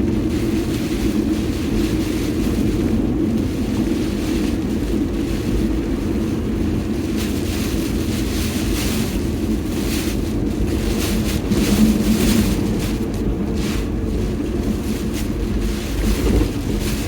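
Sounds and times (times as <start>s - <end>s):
engine and road noise drone: 0.0s - 17.0s.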